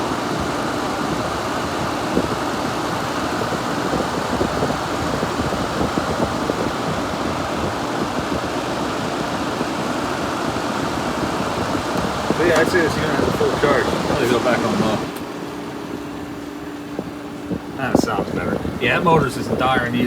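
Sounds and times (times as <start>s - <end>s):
air conditioner running: 0.0s - 20.0s
fan motor noise: 0.0s - 20.0s.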